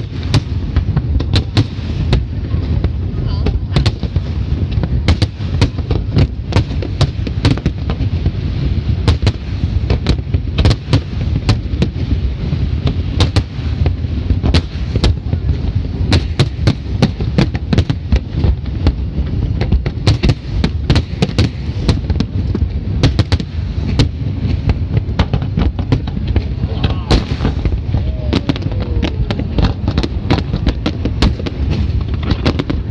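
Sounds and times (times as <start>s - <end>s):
fireworks bangs: 0.0s - 32.9s
low rumble: 0.0s - 32.9s.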